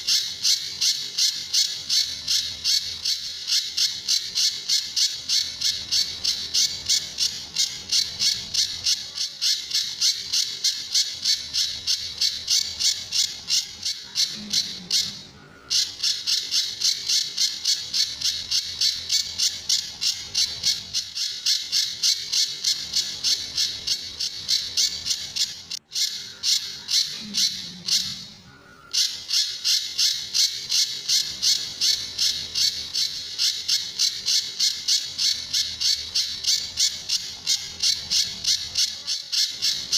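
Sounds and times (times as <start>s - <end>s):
songbird sharp high calls: 0.0s - 39.9s.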